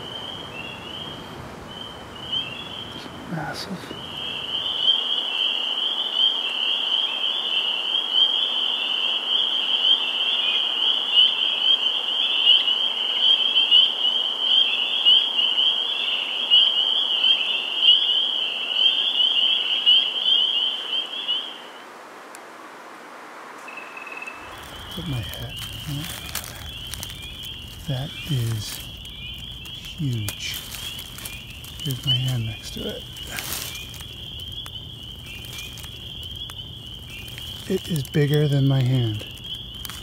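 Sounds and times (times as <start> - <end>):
spring peepers peeping: 0.0 - 21.8, 23.6 - 40.0.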